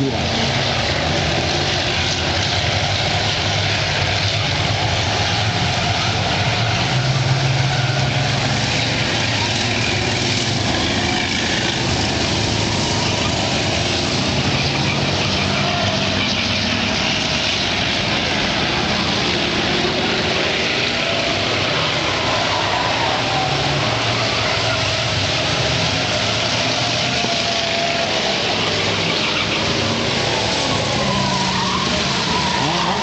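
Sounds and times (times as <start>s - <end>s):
race car engines running: 0.0s - 33.0s.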